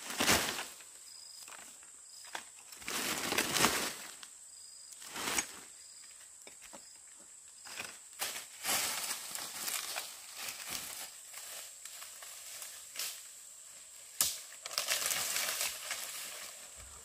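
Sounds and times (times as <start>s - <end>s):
rustling: 0.0s - 4.3s, 5.0s - 5.7s, 7.6s - 17.0s.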